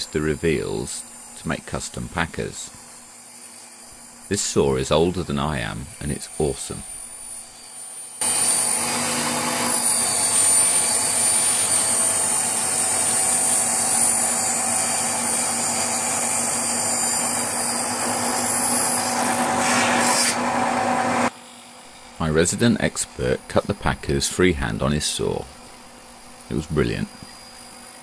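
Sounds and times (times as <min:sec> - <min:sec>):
saw cutting wooden board: 0:00.0 - 0:28.0
table saw motor whine: 0:00.0 - 0:28.0.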